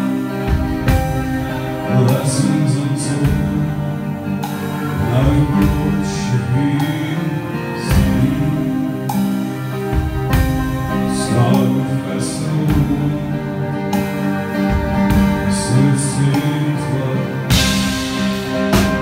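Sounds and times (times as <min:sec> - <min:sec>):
acoustic guitar: 0:00.0 - 0:19.0
man singing: 0:00.0 - 0:19.0.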